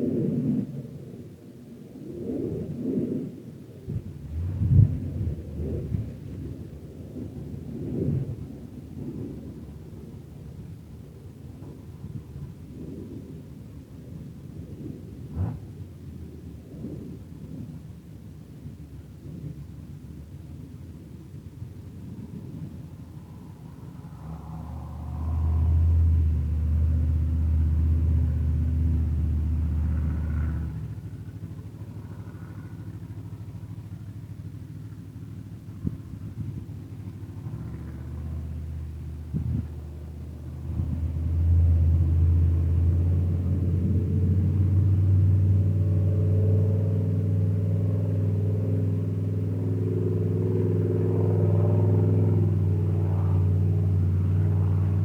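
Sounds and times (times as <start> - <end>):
vehicle engines running: 3.9 - 55.0.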